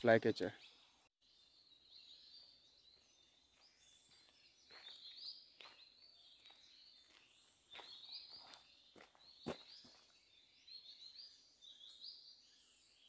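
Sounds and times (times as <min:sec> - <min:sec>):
small birds chirping and twittering: 0:00.0 - 0:13.0.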